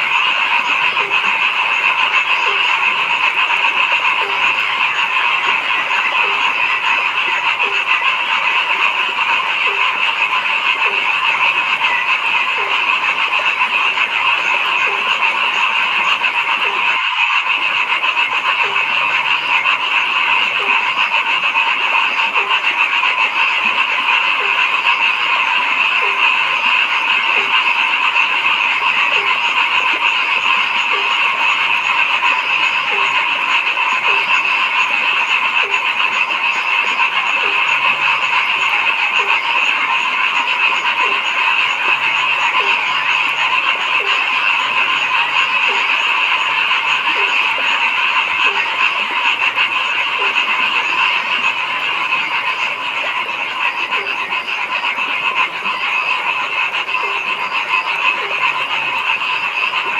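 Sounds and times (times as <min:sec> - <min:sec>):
chorus of frogs trilling: 0:00.0 - 0:59.9
frog low croaks: 0:00.0 - 0:59.9.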